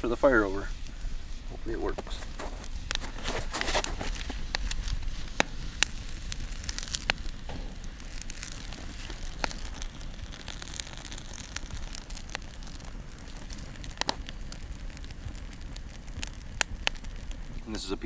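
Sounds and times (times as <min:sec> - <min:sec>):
campfire crackling: 0:00.0 - 0:18.0
sharp pops of burning wood: 0:00.0 - 0:18.0.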